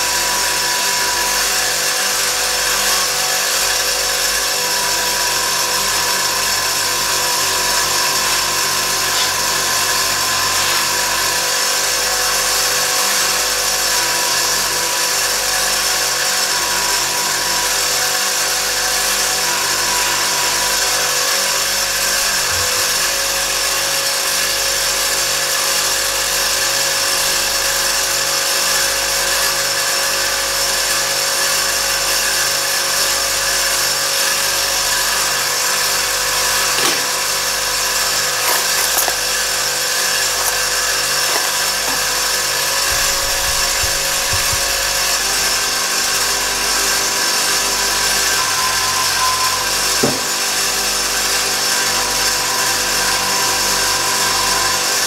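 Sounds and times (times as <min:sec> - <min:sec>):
electric power tool whining: 0:00.0 - 0:28.8, 0:32.4 - 0:55.0.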